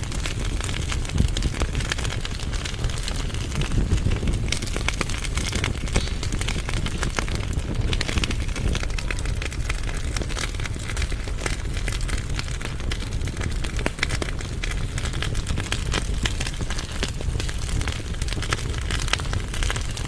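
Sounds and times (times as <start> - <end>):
firewood crackling and popping: 0.0 - 20.0
low rumble of flames: 0.0 - 20.0.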